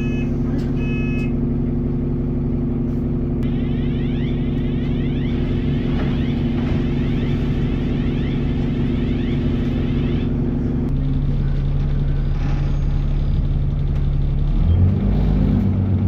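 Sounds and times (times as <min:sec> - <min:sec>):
bus engine droning: 0:00.0 - 0:16.0.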